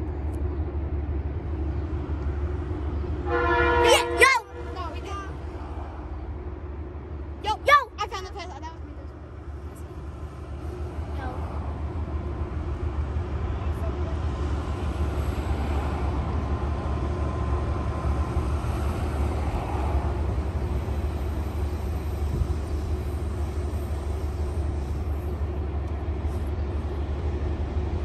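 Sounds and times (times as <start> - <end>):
distant diesel locomotive: 0.0 - 28.0
low rumble of road traffic: 0.0 - 28.0.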